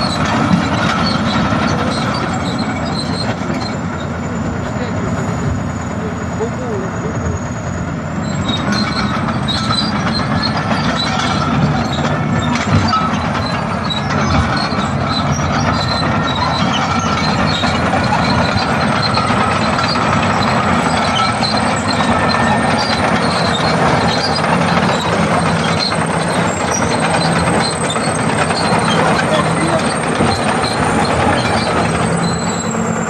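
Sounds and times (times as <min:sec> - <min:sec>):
bulldozer engine drone: 0:00.0 - 0:33.0
steel crawler tracks clattering: 0:00.0 - 0:33.0.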